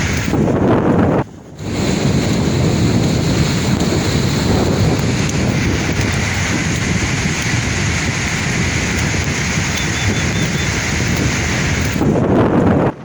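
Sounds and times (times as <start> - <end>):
sea waves washing onto shore: 0.0 - 12.3
wind rumbling on microphone: 0.0 - 13.0.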